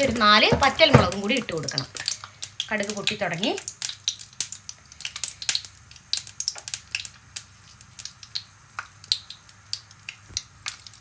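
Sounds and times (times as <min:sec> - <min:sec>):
seeds popping in hot oil: 0:00.0 - 0:11.0.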